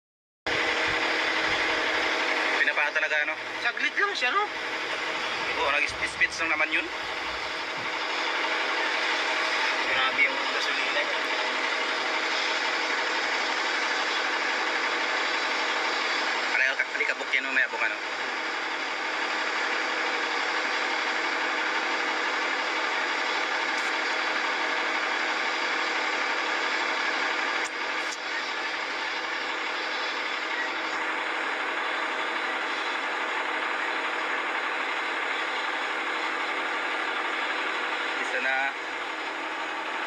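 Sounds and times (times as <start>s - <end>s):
engine drone: 0.5s - 40.0s.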